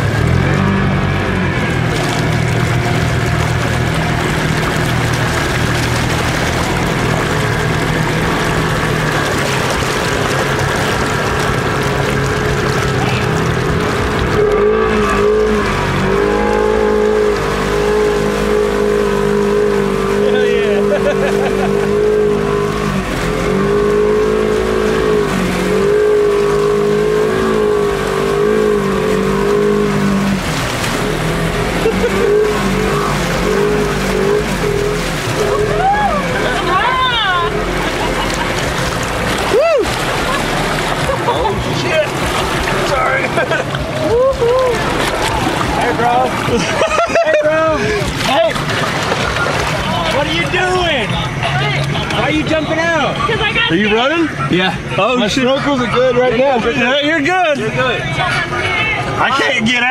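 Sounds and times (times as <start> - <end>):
vehicle engine running: 0.0 - 59.9
water rushing and sloshing: 0.0 - 59.9.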